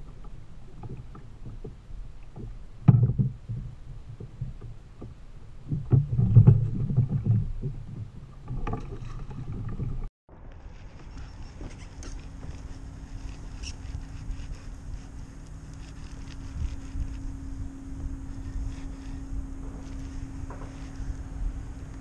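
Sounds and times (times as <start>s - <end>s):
low rumble of water and wind: 0.0s - 22.0s.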